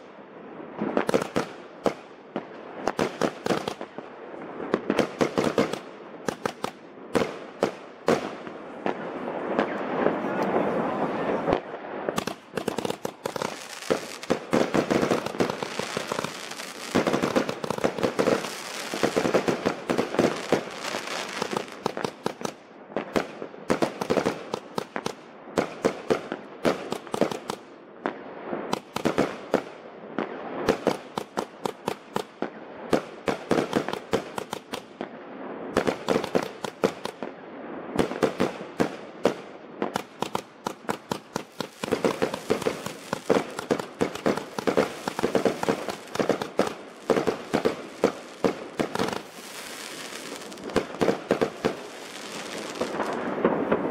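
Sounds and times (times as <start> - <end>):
firework cake barrage of bangs: 0.8 - 4.0, 4.7 - 35.1, 35.7 - 37.3, 38.0 - 53.9.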